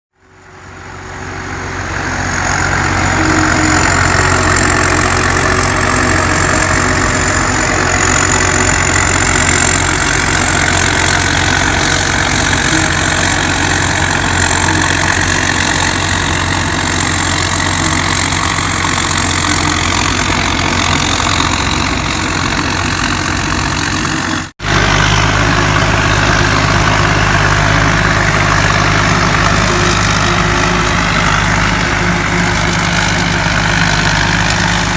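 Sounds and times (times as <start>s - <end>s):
low engine hum: 0.1s - 34.9s
high-pitched blower whine: 0.2s - 34.9s.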